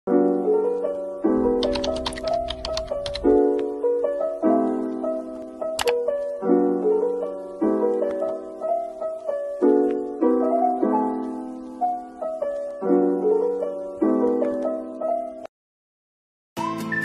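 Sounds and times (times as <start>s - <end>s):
piano music: 0.1s - 15.5s.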